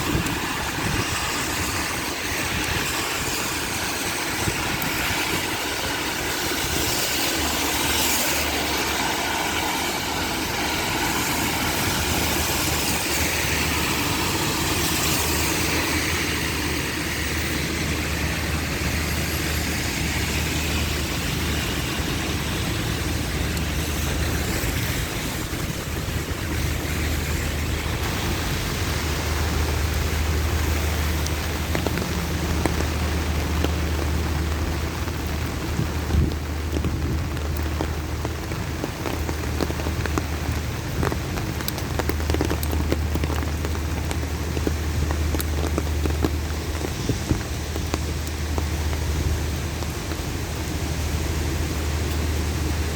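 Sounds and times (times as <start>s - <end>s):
heavy rain pouring: 0.0s - 52.9s
traffic on wet roads: 0.0s - 52.9s
vehicle engine humming: 0.0s - 52.9s.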